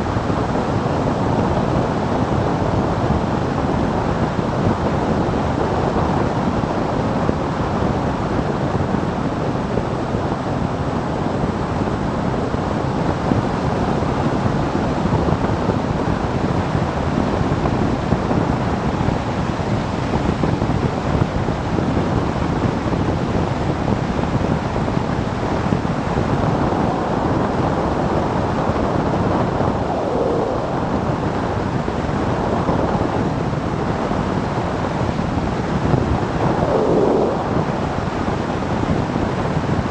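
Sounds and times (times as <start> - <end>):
wind roaring over microphone: 0.0 - 39.9.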